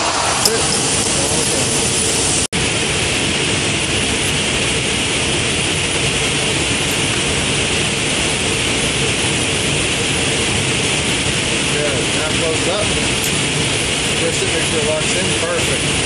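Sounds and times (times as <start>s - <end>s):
ventilation rushing air: 0.0s - 16.0s.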